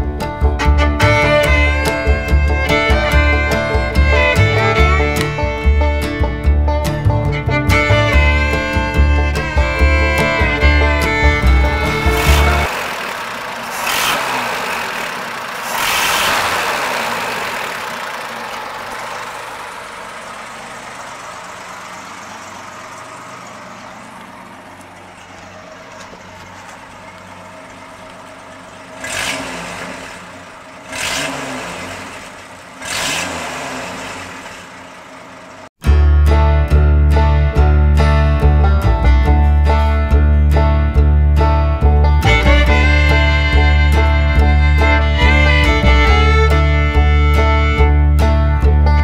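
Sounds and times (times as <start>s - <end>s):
pickup engine revving and idling: 0.0s - 35.8s, 36.4s - 49.0s.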